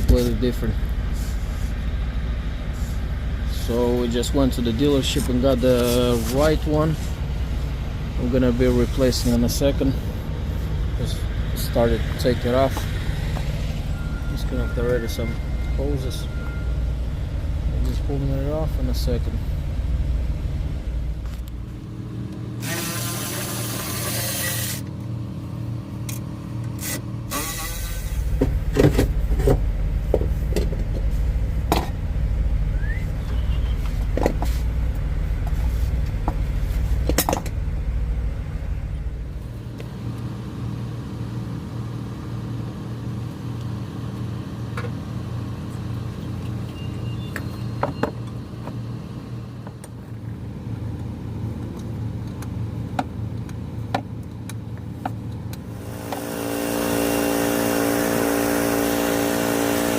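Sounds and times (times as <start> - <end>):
truck engine idling: 0.0 - 22.7, 24.8 - 56.0
engine hum: 0.0 - 59.9.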